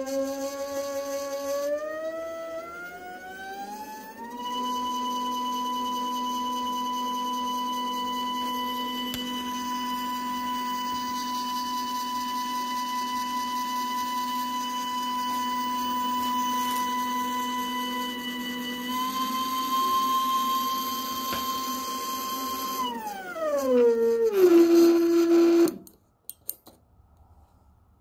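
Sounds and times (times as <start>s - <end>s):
stepper motor whine: 0.0s - 25.9s.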